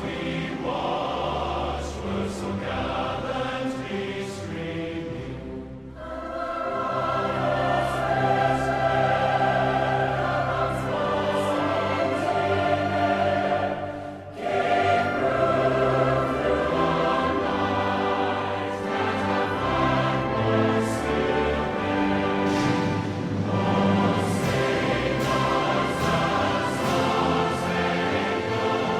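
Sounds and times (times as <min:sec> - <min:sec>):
choir-like held notes: 0:00.0 - 0:28.9
orchestral backing: 0:00.0 - 0:28.9.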